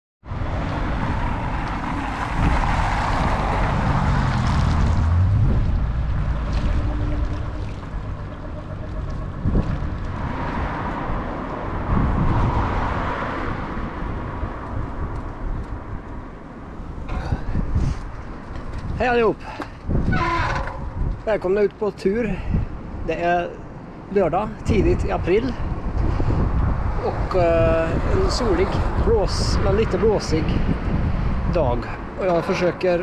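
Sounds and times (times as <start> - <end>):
wind rumbling on microphone: 0.2 - 33.0
passing traffic engines: 0.3 - 21.3, 22.1 - 33.0.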